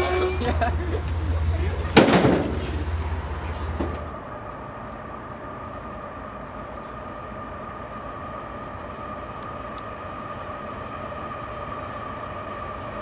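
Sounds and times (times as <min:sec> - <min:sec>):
distant train rumble: 0:00.0 - 0:13.0
standing train humming: 0:00.0 - 0:13.0.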